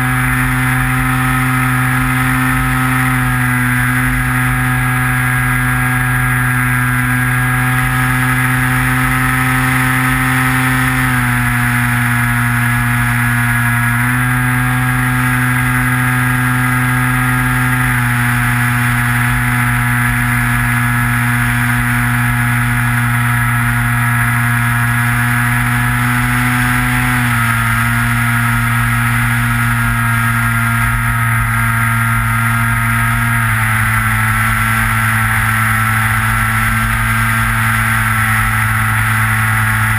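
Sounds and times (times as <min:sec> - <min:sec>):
model plane motor whining: 0:00.0 - 0:39.9.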